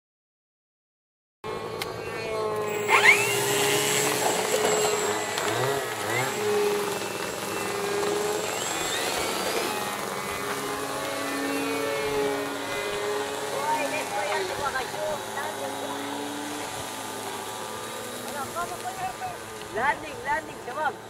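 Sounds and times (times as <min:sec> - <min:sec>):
model plane electric motor: 0:01.5 - 0:21.0.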